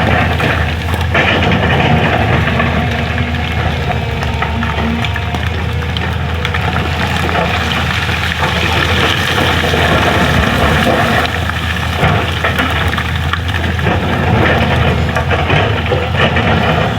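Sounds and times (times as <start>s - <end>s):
bucket crunching road material: 0.0s - 16.9s
excavator diesel engine running: 0.0s - 16.9s.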